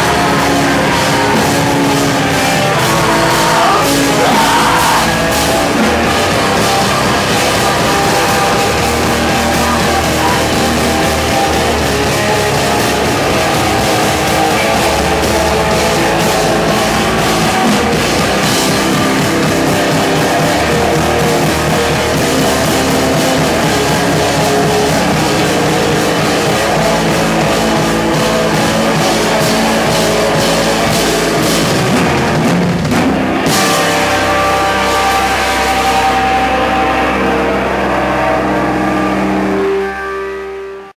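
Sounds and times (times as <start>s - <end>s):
distorted electric guitars: 0.0s - 40.9s
drum kit: 0.0s - 40.9s.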